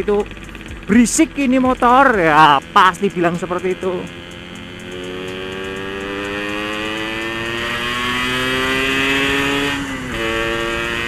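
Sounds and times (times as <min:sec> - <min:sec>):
two-stroke motorcycle engine accelerating: 0:00.0 - 0:11.0.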